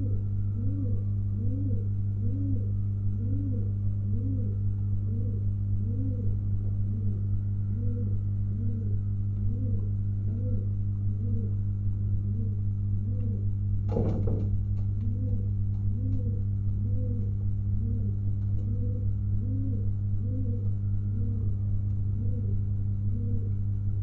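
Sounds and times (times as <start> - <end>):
pigeon cooing: 0.0 - 24.0
steady electrical hum: 0.0 - 24.0.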